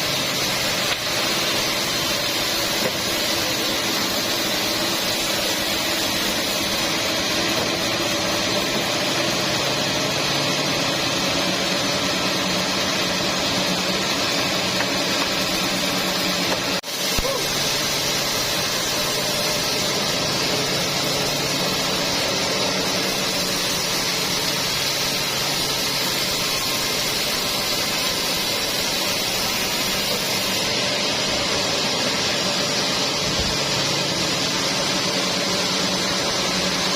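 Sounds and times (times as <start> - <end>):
sawmill machinery humming and hissing: 0.0 - 36.9.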